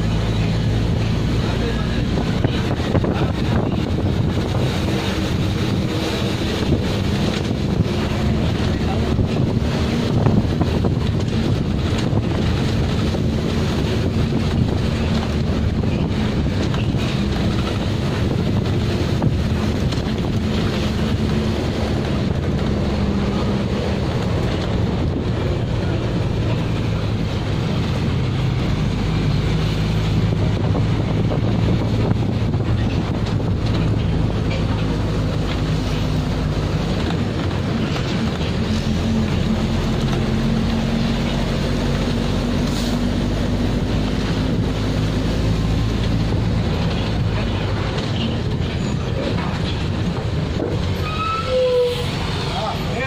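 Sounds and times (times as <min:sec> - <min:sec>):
vehicle engine running: 0:00.0 - 0:51.0
wind buffeting microphone: 0:00.0 - 0:51.0.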